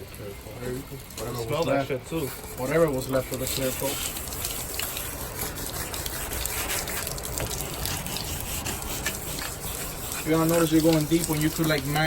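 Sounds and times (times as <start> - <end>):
water trickling: 0.0 - 12.0
wet sandpaper scrubbing: 0.2 - 12.0.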